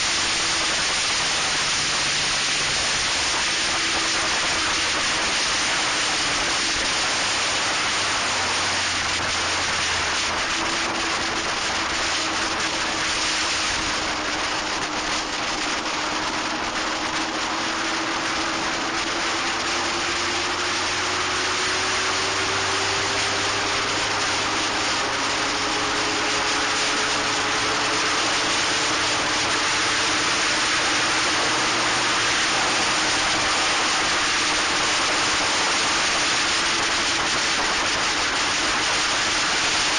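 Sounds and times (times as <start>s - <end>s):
race car engine: 0.0s - 39.9s
wind rushing on microphone: 0.0s - 39.9s.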